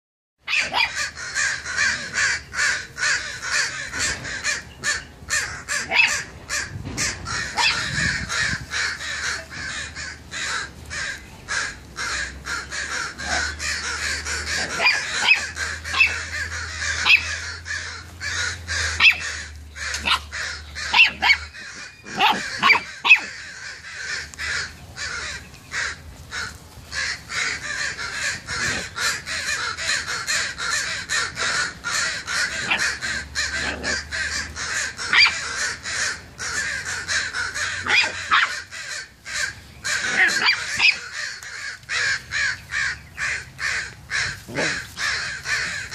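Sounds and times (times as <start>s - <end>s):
crows cawing: 0.5s - 45.9s.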